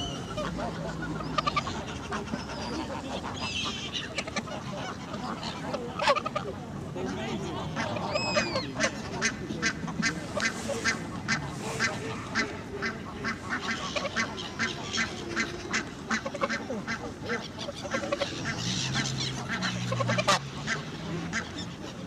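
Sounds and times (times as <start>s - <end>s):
ducks quacking: 0.0s - 22.0s
waterfowl calling: 0.0s - 22.0s.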